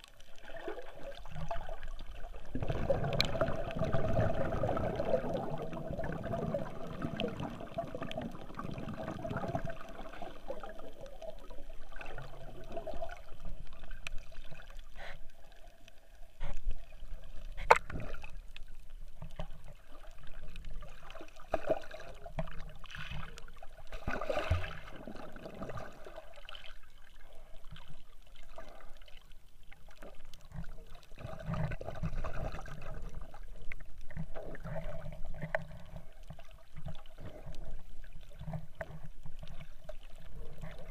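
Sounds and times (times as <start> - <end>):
muffled underwater water sloshing: 0.0 - 40.9.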